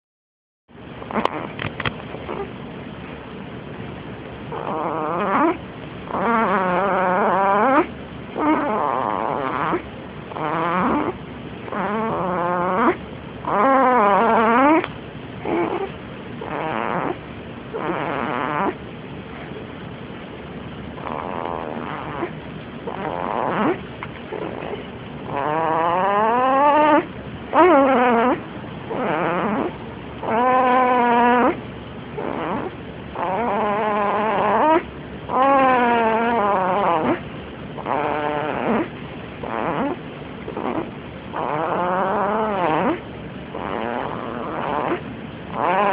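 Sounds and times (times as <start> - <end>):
loud pitched snoring: 1.1 - 1.6, 4.5 - 18.8, 21.0 - 31.6, 32.2 - 37.2, 37.8 - 45.9.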